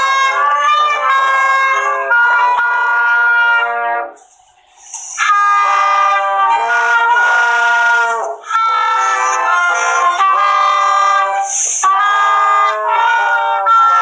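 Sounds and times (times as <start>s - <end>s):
wind band playing held chords: 0.0s - 14.0s.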